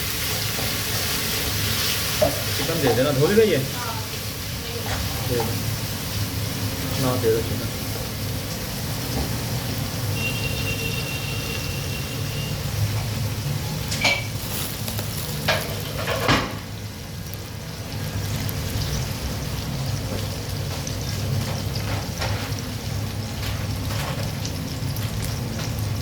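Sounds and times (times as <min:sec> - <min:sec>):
food sizzling in a pot: 0:00.0 - 0:26.0.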